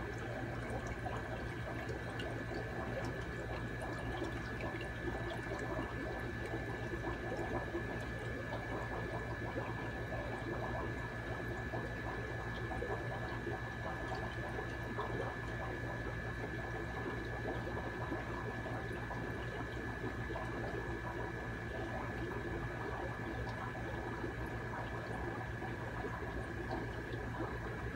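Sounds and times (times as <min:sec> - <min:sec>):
trickle of moving water: 0:00.0 - 0:27.9.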